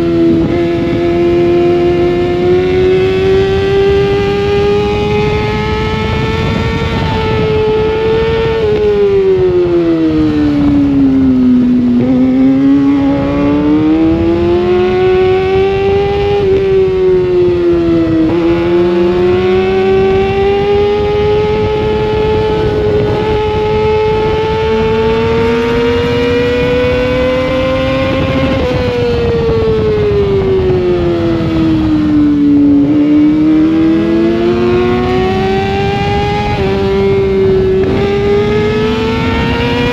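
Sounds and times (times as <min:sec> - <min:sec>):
motorbike engine at high revs: 0:00.0 - 0:39.9.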